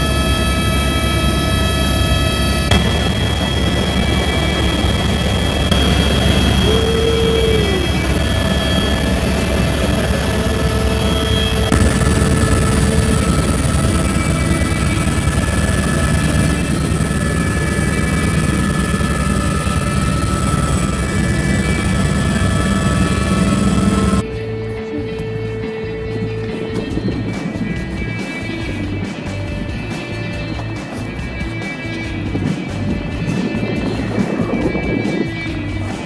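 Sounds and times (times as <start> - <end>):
helicopter engine and rotor drone: 0.0 - 36.0
high steady whines: 0.0 - 36.0.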